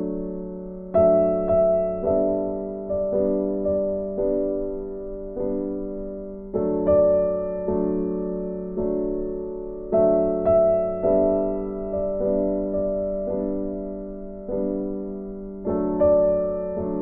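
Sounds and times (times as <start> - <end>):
slow soft piano music: 0.0 - 17.0.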